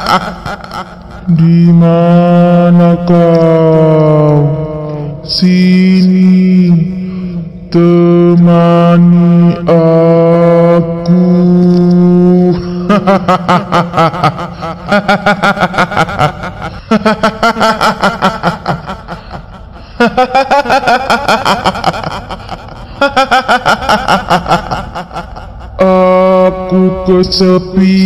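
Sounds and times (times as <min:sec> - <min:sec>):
low drone: 0:00.0 - 0:28.0.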